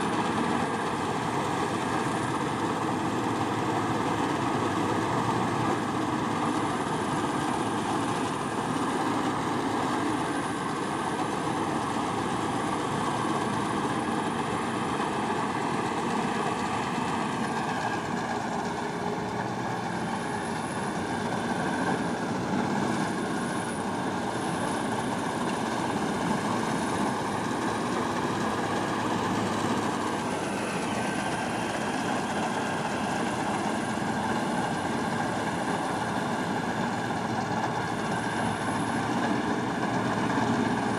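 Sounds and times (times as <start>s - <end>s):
farm machine engine running: 0.0s - 40.9s.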